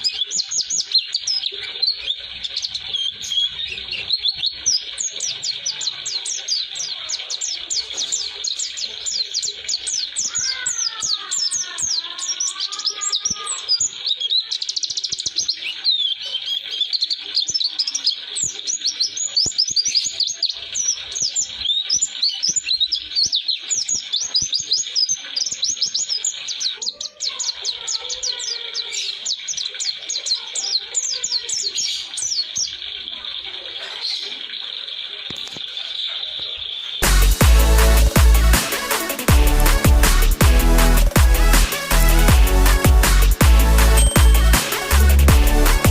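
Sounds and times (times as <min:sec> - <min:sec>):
bird twittering song: 0:00.0 - 0:45.9.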